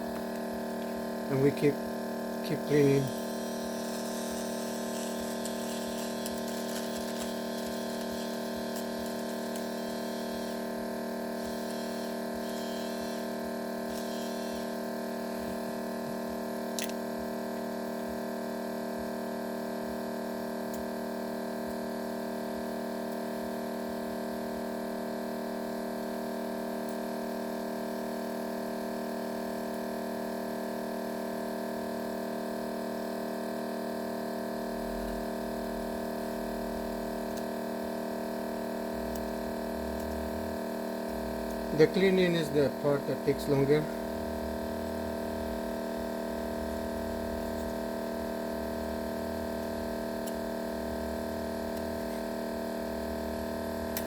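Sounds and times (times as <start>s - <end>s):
repair bench equipment hum: 0.0s - 54.0s.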